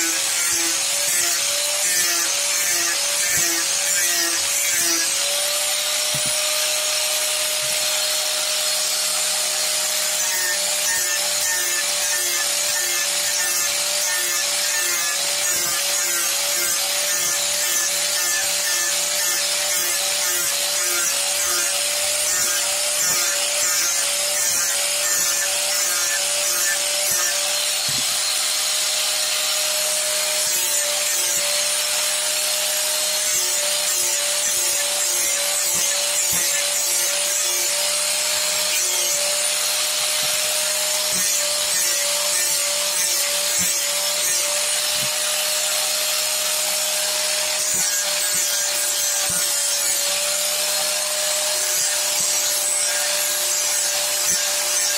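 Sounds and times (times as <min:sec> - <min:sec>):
angle grinder grinding wood: 0:00.0 - 0:54.9.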